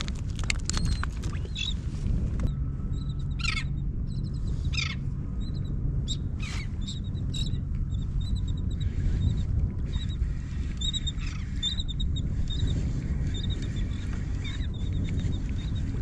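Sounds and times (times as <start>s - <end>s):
wind on microphone: 0.0s - 16.0s
birds chirping: 0.5s - 1.8s, 2.5s - 16.0s.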